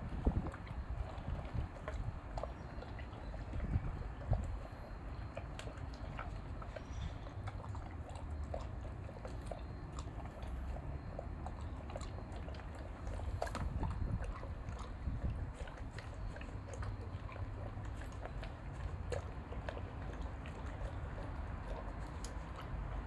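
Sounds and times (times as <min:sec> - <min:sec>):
dog chewing and crunching: 0:00.0 - 0:23.0.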